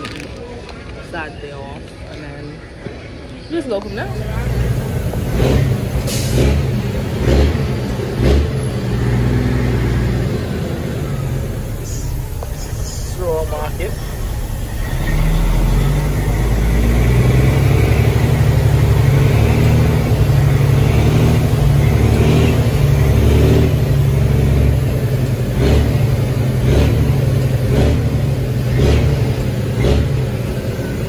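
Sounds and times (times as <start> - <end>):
diesel truck engine: 0.0 - 31.0.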